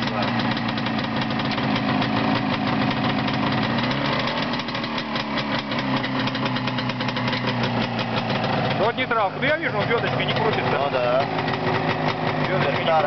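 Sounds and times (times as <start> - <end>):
two-stroke motorcycle engine running: 0.0 - 13.0.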